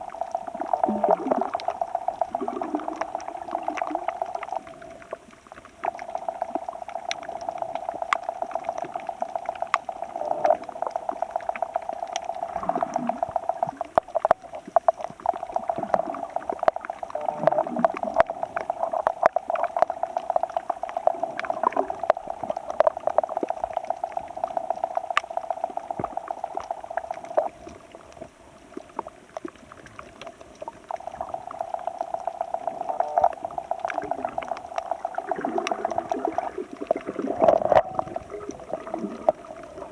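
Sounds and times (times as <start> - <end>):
sharp crackling clicks: 0.0 - 39.9
steady buzzing hum: 0.0 - 39.9
underwater churning and bubbling: 0.0 - 39.9.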